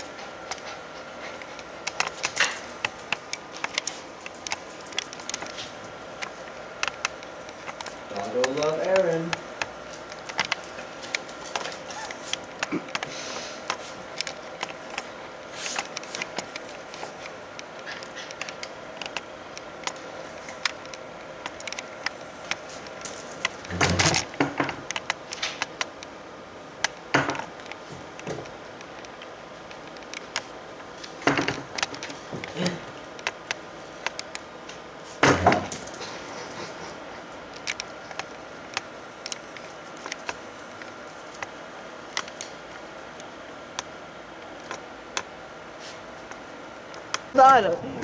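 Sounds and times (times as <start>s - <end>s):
dog paws clicking on concrete: 0.0s - 26.1s, 26.8s - 43.4s
steady hum: 0.0s - 48.0s.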